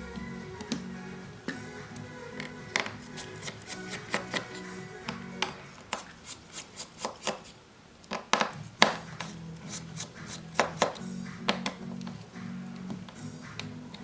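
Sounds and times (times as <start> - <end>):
low background music: 0.0 - 6.4, 8.4 - 14.0
small tools clicking and tapping: 2.0 - 14.0.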